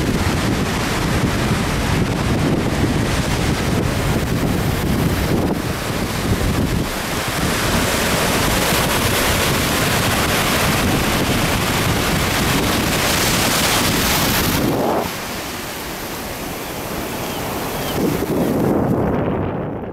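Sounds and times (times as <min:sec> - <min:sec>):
surf breaking over rocks: 0:00.0 - 0:19.2
wind buffeting microphone: 0:00.0 - 0:19.9.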